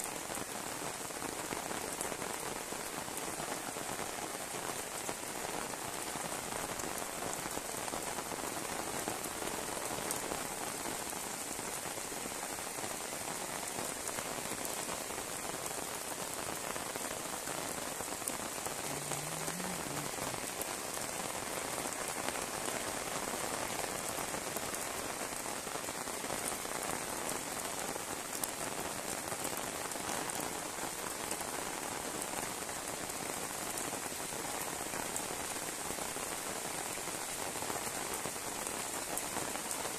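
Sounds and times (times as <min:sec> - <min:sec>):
heavy rain on concrete and roofs: 0:00.0 - 0:39.9.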